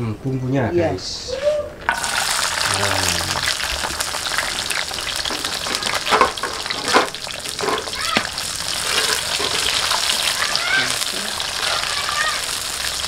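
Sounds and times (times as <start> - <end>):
oil crackling: 1.8 - 13.0
food sizzling in hot oil: 1.9 - 13.0.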